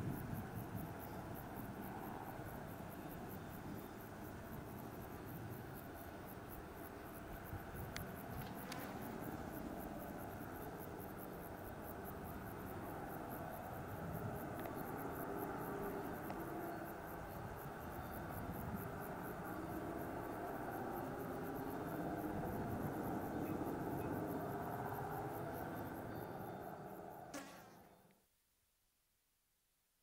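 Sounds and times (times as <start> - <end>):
distant helicopter drone: 0.0 - 28.1.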